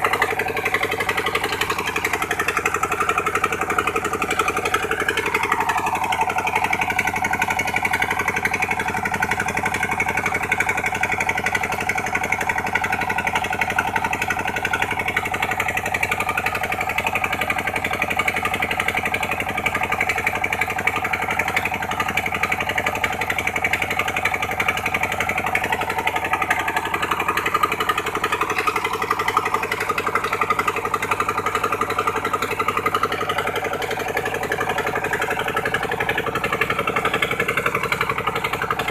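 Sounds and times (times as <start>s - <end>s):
dredging pump engine running: 0.0s - 38.9s.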